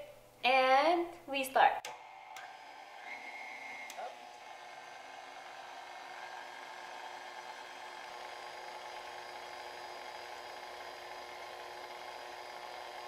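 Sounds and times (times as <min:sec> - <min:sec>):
stand mixer beating batter: 0:01.9 - 0:13.0.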